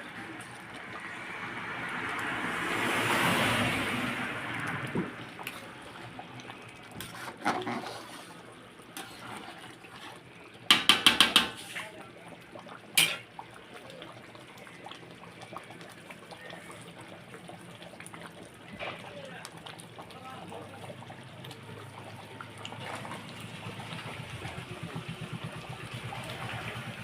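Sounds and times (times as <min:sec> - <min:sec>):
faint running water: 0:00.0 - 0:27.0.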